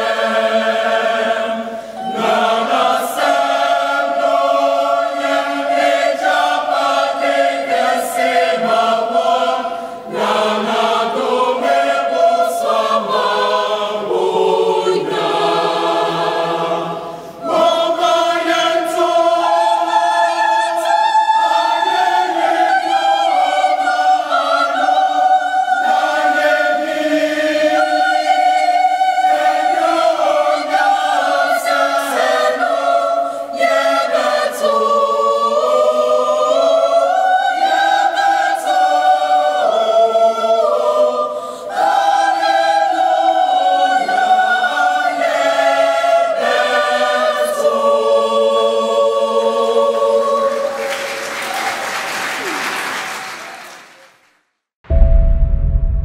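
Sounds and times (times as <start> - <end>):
choir singing in harmony: 0.0 - 52.6.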